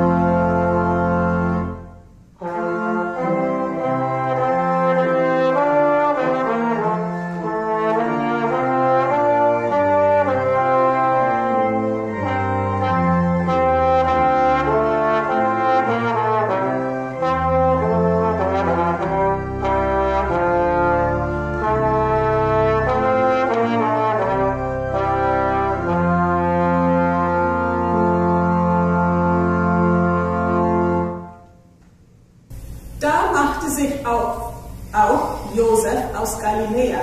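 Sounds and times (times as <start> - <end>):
trombone: 0.0 - 31.6
pipe organ: 0.0 - 31.8.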